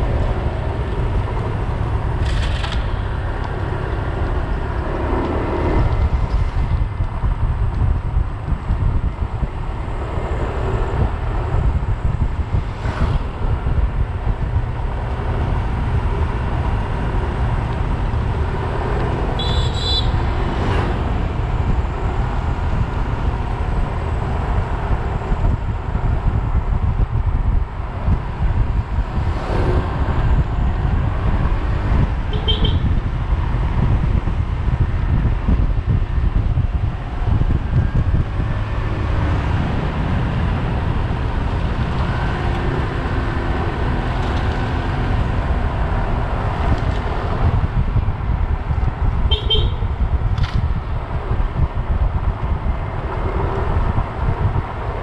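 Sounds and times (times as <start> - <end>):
tyre noise on concrete road: 0.0 - 55.0
wind buffeting microphone: 0.0 - 55.0.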